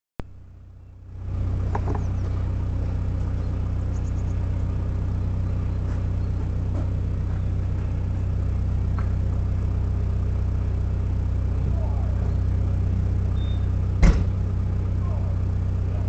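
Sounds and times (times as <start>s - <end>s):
vehicle engine idling: 0.2s - 16.0s.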